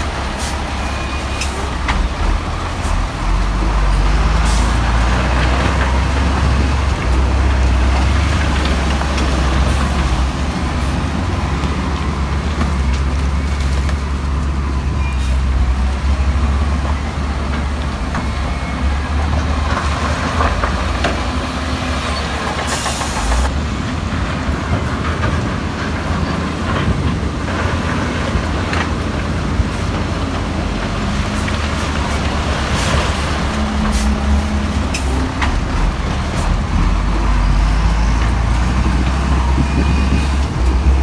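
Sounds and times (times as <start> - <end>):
diesel machinery running: 0.0 - 41.0.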